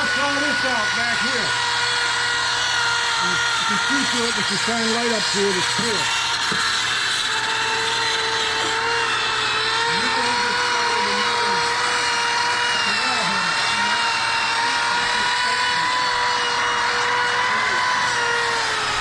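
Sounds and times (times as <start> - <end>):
power carving tool grinding wood: 0.0 - 19.0.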